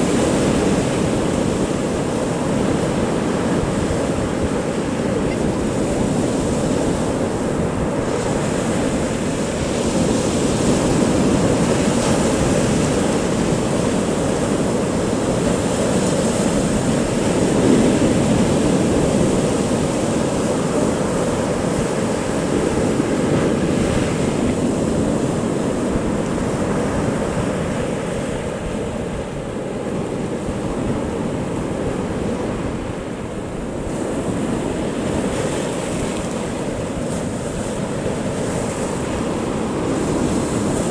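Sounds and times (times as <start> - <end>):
sea waves breaking on beach: 0.0 - 40.9
wind buffeting microphone: 0.0 - 40.9.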